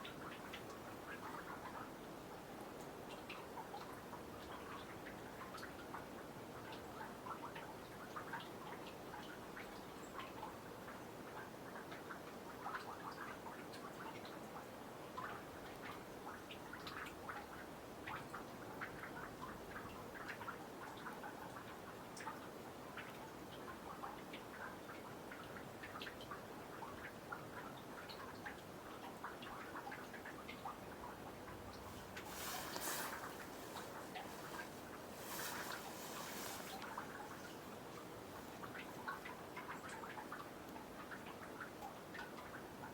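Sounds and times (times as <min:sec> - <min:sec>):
faint steady background: 0:00.0 - 0:42.9
soft steady hiss: 0:00.0 - 0:42.9
water dripping plinks: 0:00.0 - 0:42.9.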